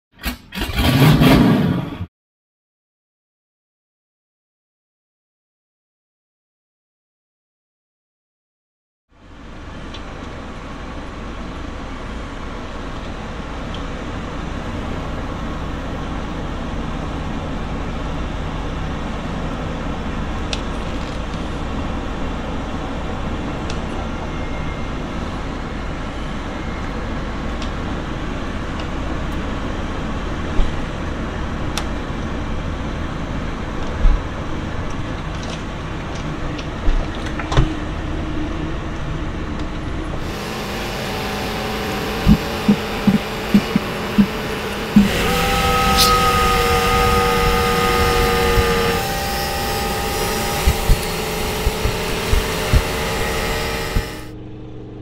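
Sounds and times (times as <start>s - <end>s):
car tyre and engine rumble: 9.2s - 55.0s.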